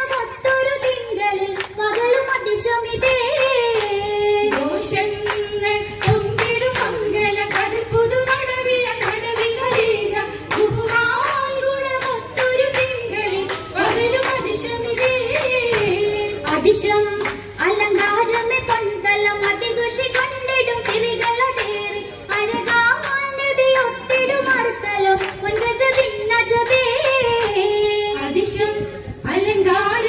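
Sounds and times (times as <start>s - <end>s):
handclaps: 0.0s - 27.8s
woman singing through loudspeakers: 0.0s - 30.0s.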